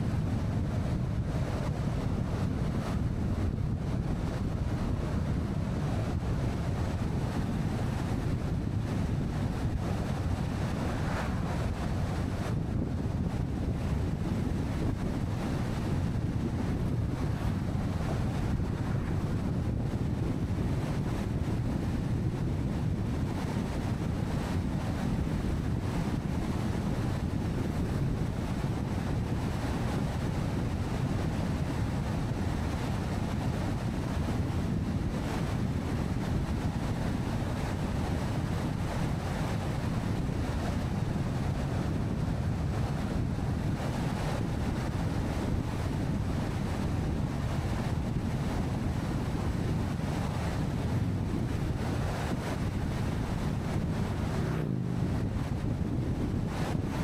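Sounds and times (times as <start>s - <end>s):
tyre and wind noise: 0.0s - 57.0s.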